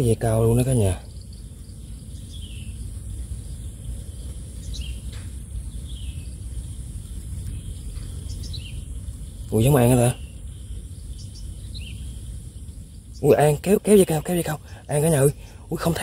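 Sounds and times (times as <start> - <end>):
bird chirps: 0.0 - 16.0
high insect whine: 0.0 - 16.0
low rumble: 0.6 - 14.4.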